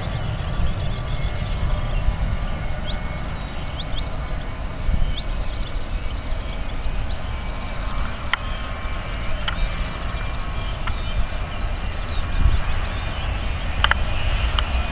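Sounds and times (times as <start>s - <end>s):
jet engines roaring: 0.0s - 14.9s.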